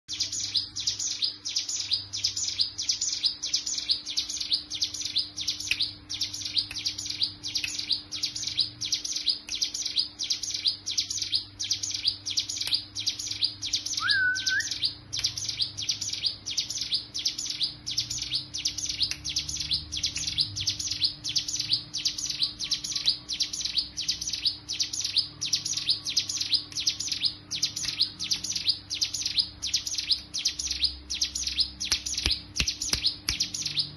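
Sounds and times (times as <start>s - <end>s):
bird high chirps: 0.1s - 33.9s.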